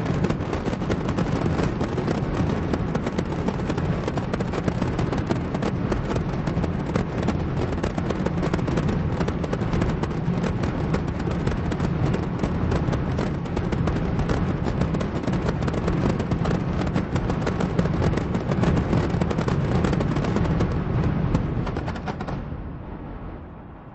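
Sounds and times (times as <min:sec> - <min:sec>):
fireworks bangs and crackles: 0:00.0 - 0:23.9.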